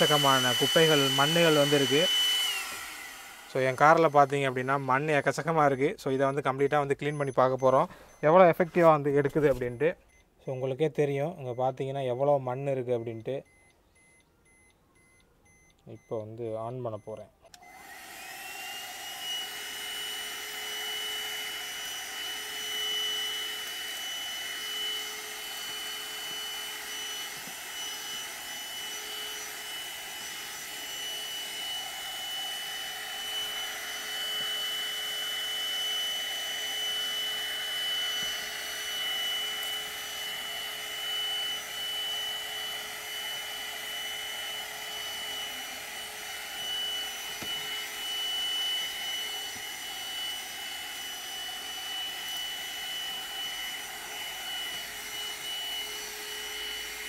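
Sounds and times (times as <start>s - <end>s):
handheld vacuum cleaner whining: 0.0s - 9.9s, 17.5s - 57.0s.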